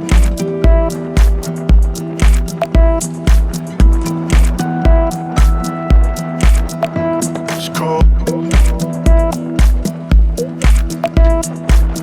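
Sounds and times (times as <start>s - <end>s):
steady kick drum: 0.0s - 6.9s, 8.0s - 12.0s.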